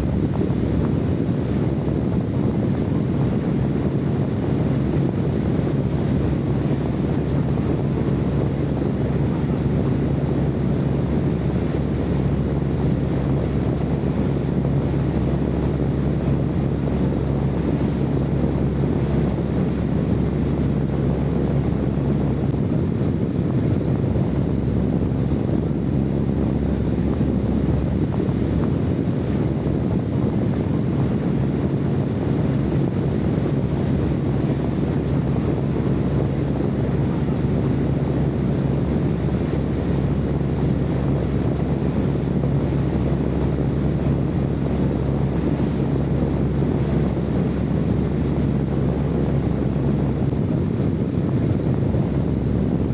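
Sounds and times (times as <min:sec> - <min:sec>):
low rumbling noise: 0:00.0 - 0:52.9.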